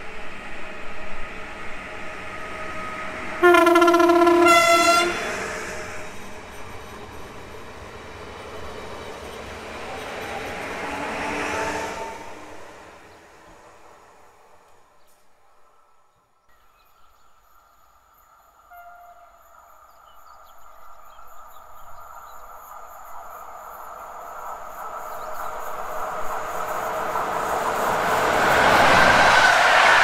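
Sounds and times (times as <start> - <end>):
train wheels on rail: 0.0 - 15.6, 16.5 - 30.0.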